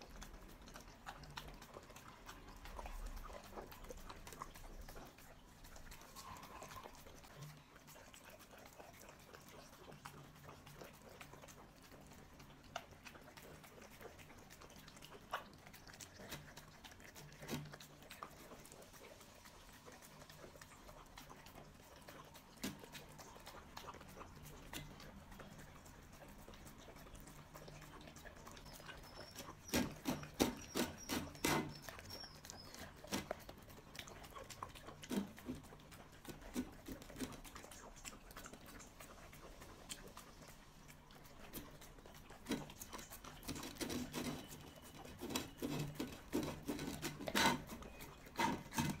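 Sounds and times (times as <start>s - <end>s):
puppy lapping and chewing: 0.0s - 49.0s.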